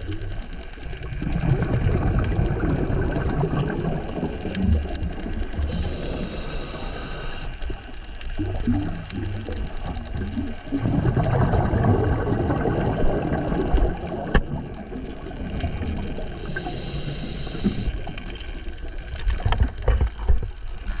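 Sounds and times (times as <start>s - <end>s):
rush of bubbling: 0.0s - 20.4s
underwater water noise: 0.0s - 21.0s.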